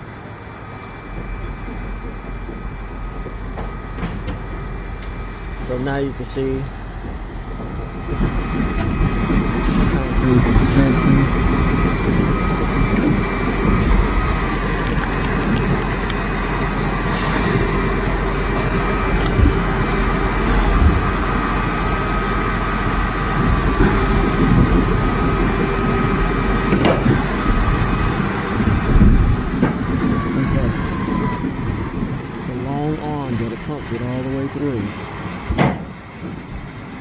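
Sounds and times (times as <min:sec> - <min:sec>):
concrete pump engine running: 0:00.0 - 0:37.0
constant machine whine: 0:00.0 - 0:37.0.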